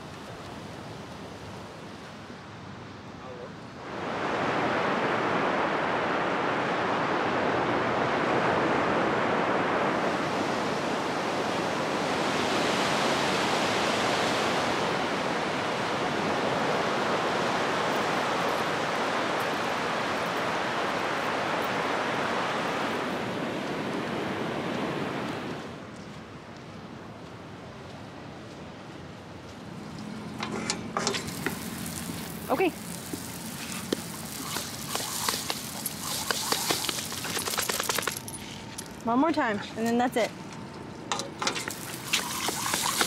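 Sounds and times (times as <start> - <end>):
ocean surf washing on shore: 0.0 - 39.3, 41.1 - 43.0.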